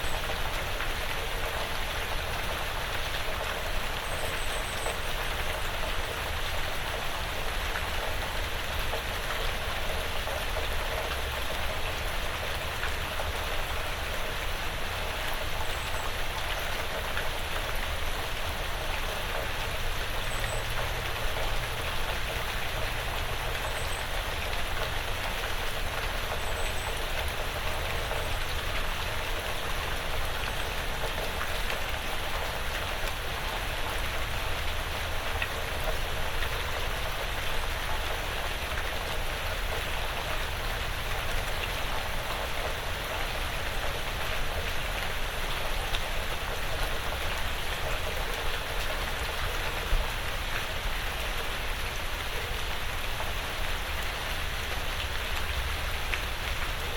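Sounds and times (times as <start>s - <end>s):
light rain pattering on roof: 0.0s - 56.9s.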